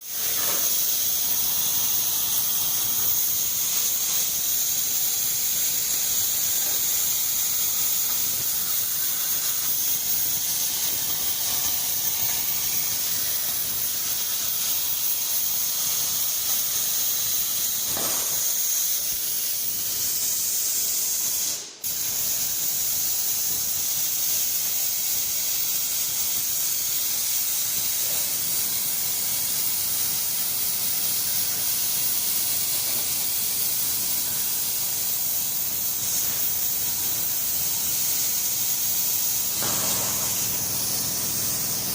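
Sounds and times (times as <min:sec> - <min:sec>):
plasma torch hissing: 0:00.0 - 0:41.9.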